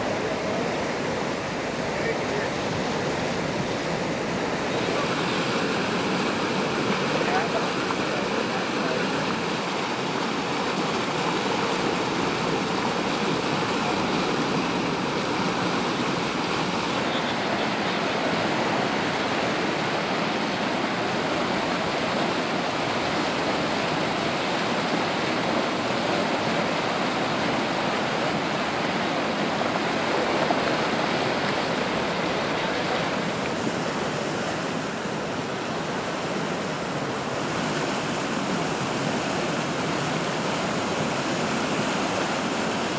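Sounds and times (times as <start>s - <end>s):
water rushing through canal gates: 0.0s - 42.9s.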